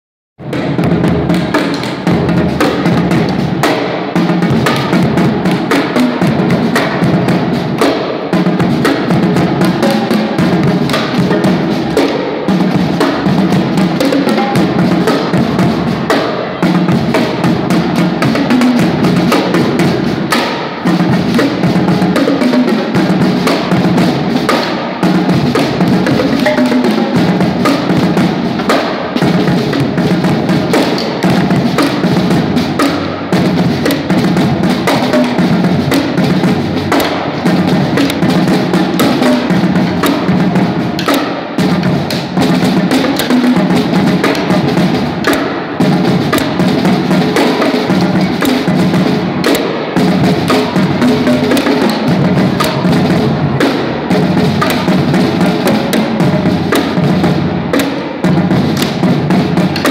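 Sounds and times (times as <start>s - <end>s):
marching drum cadence: 0.4s - 59.9s.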